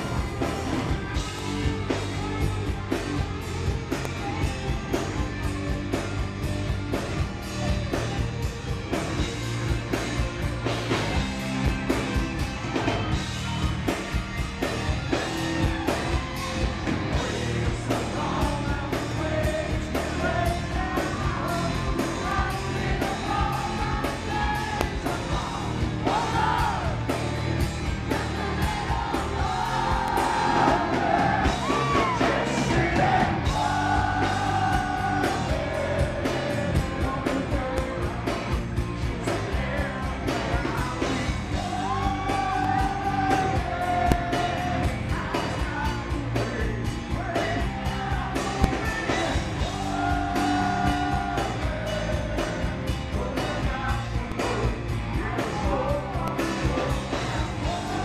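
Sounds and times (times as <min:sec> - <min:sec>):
hard rock band playing live: 0:00.0 - 0:58.0.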